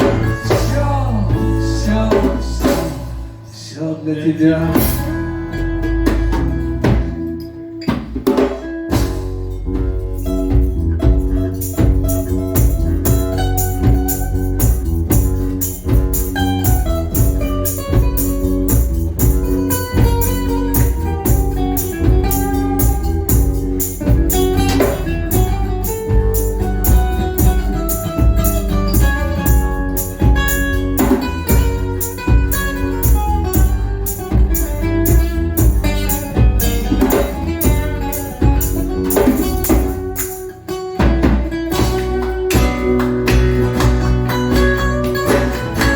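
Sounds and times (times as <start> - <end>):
drum beat: 0.0 - 3.3, 7.9 - 45.9
live band playing instrumental: 0.0 - 3.6, 4.6 - 45.9.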